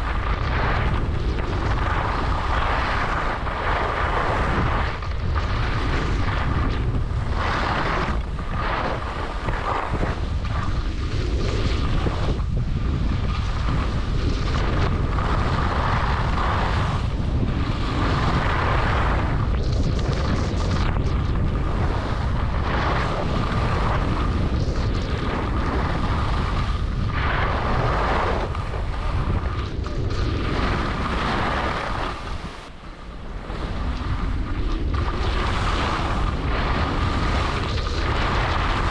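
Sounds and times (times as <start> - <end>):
skis carving on packed snow: 0.0 - 38.9
wind buffeting microphone: 0.0 - 38.9.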